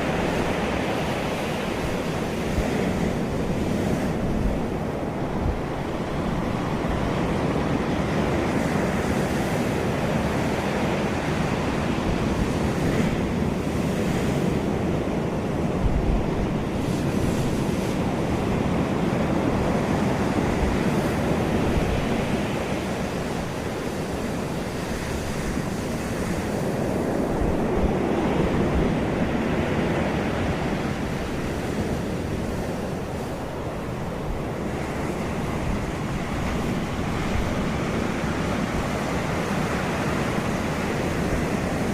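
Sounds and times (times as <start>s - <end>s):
surf breaking on shore: 0.0s - 41.9s
wind buffeting microphone: 0.0s - 41.9s.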